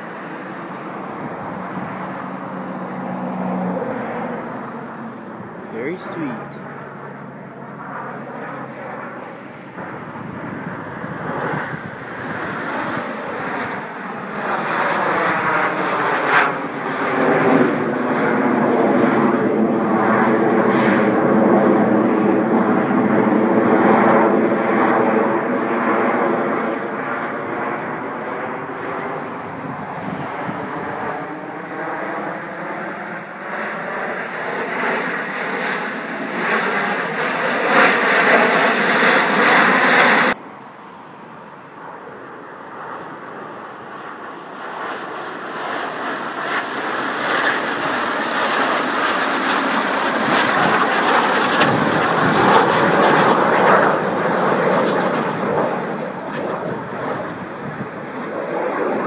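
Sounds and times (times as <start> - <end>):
jets roaring overhead: 0.0 - 59.0.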